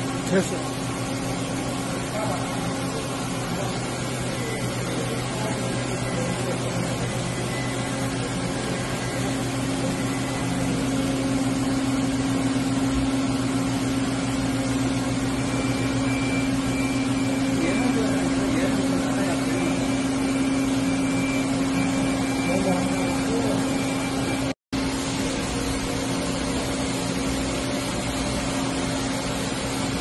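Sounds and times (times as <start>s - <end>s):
machining center humming: 0.0s - 30.0s.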